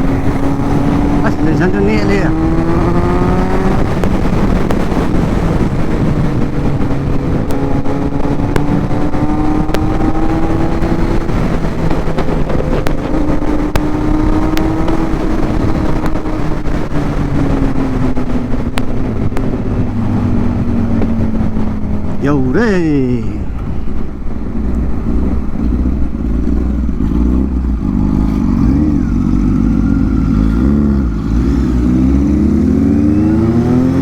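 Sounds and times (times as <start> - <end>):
motorcycle engine cruising: 0.0 - 34.0
rushing wind noise: 0.0 - 34.0.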